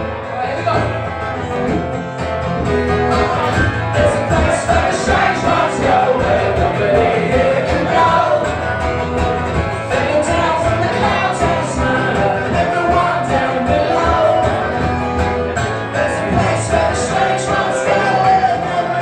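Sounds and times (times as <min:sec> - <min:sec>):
live band with singer: 0:00.0 - 0:19.0.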